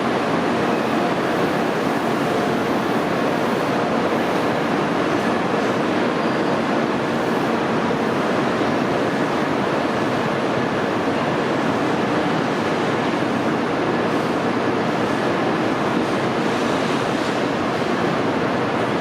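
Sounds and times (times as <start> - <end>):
freight train rushing: 0.0 - 19.0.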